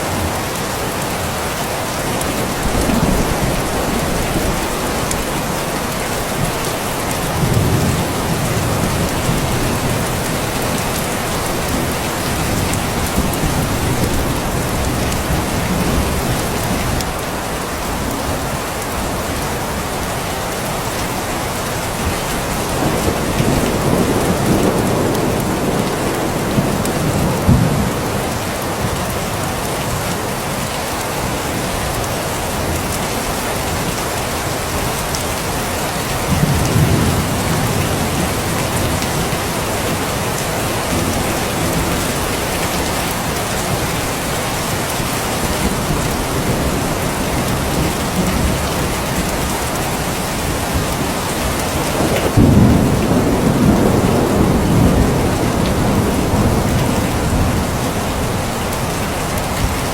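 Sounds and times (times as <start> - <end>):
steady rain: 0.0 - 59.9
thunder rumbling: 2.0 - 19.0, 21.9 - 29.1, 36.1 - 59.9.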